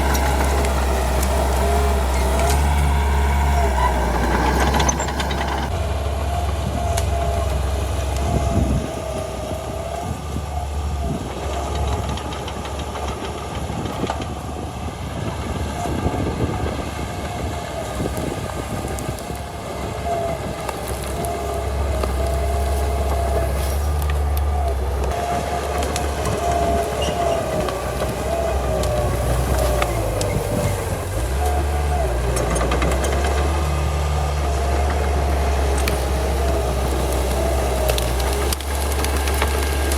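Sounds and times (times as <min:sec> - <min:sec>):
bulldozer engine drone: 0:00.0 - 0:39.9.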